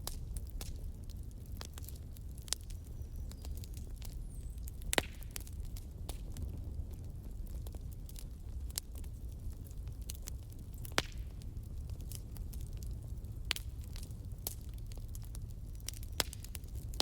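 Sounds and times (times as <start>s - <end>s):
fire crackling and popping: 0.0s - 17.0s
fire low rumble: 0.0s - 17.0s.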